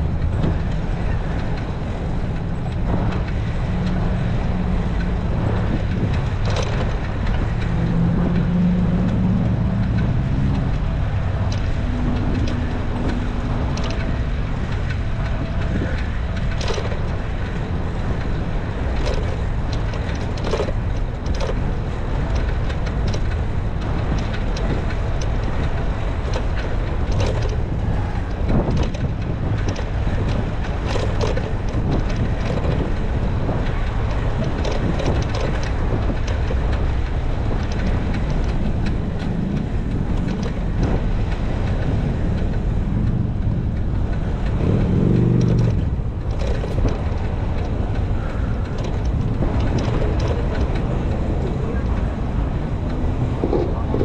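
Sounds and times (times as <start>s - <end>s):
bicycle tyre rumble on pavement: 0.0s - 54.0s
wind buffeting microphone: 0.0s - 54.0s
short clicks and rattles: 0.1s - 54.0s.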